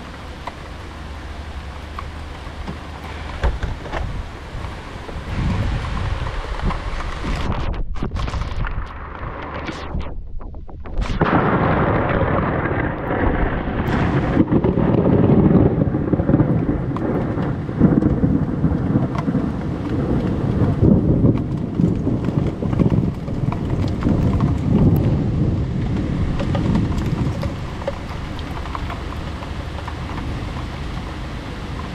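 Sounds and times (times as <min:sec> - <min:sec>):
heavy rain hissing: 0:00.0 - 0:10.0, 0:11.0 - 0:31.9
rumble of thunder: 0:00.0 - 0:31.9.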